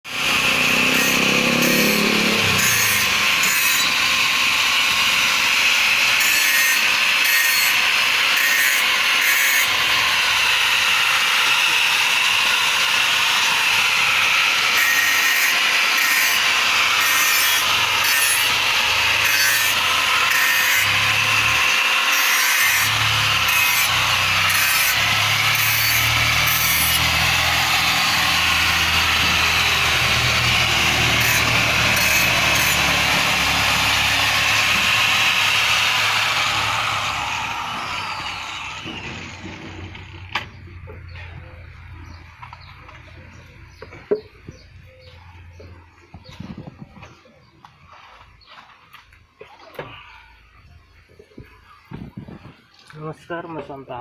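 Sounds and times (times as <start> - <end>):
angle grinder grinding steel: 0.1 - 46.6.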